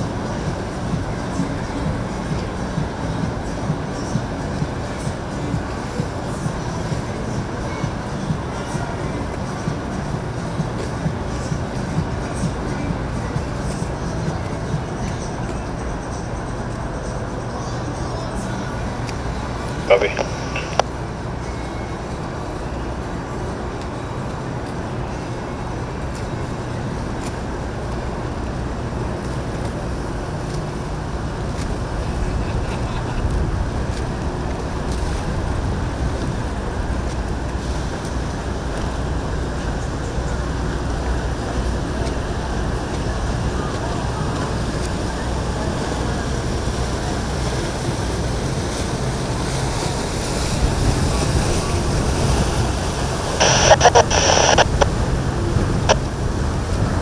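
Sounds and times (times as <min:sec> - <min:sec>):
boat engine droning: 0:00.0 - 0:57.0
low mechanical rumble: 0:00.0 - 0:57.0
water rushing: 0:00.0 - 0:57.0
wind: 0:00.0 - 0:57.0.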